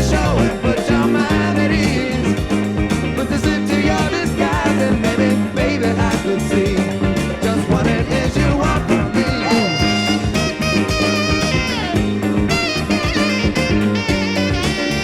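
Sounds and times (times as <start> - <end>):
person singing: 0.0 - 12.1
band dance music: 0.0 - 15.0.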